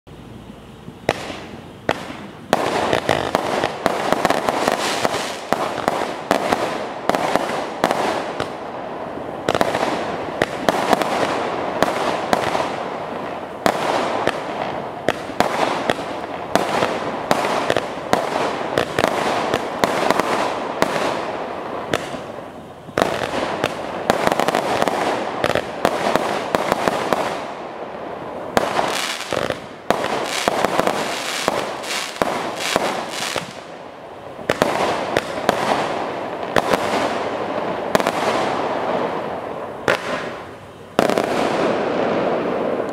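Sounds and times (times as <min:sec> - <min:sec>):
firework barrage bangs: 0:01.0 - 0:33.8, 0:34.4 - 0:42.9.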